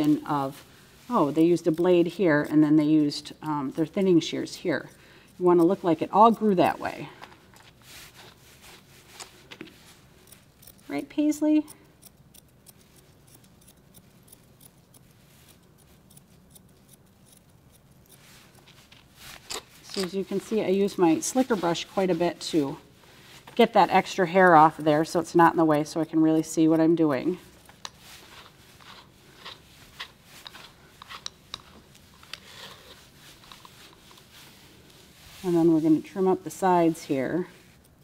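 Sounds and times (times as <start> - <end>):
shears snipping fur: 0.0 - 38.0.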